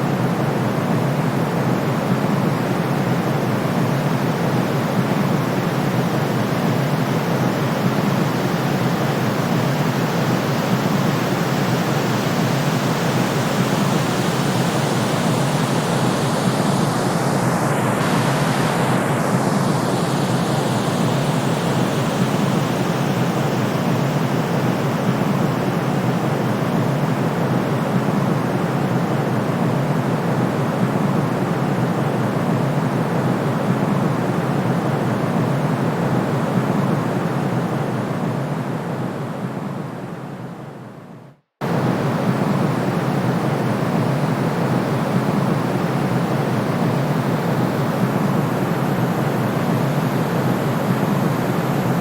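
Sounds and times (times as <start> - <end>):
steady white noise: 0.0 - 52.0.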